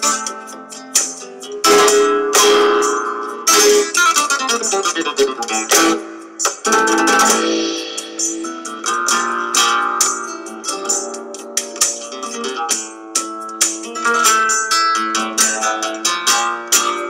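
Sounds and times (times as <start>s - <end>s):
plucked and strummed strings: 0.0s - 17.0s.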